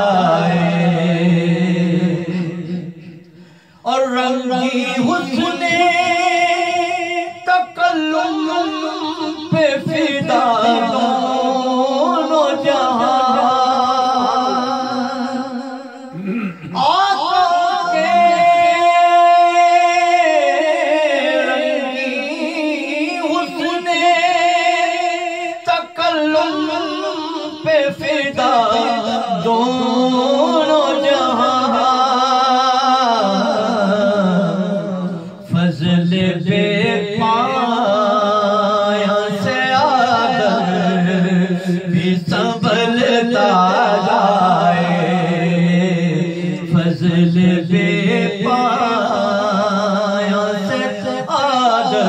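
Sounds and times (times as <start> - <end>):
man singing unaccompanied: 0.0 - 52.0.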